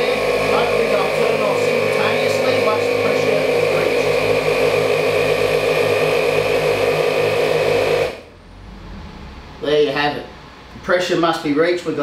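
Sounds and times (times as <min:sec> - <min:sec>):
air compressors running: 0:00.0 - 0:12.0.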